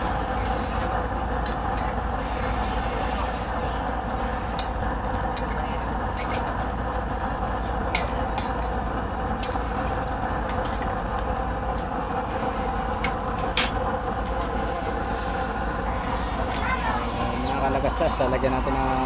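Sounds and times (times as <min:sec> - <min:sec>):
pot simmering hiss: 0:00.0 - 0:19.0.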